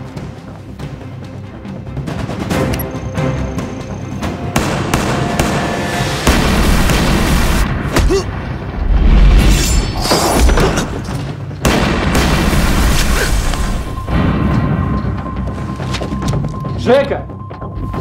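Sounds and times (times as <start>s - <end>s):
dramatic background music: 0.0s - 18.0s.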